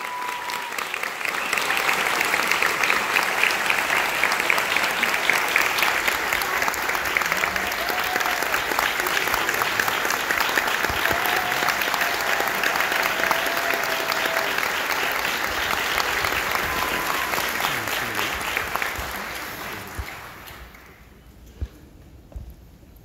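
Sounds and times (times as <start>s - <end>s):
audience applauding: 0.0s - 21.2s.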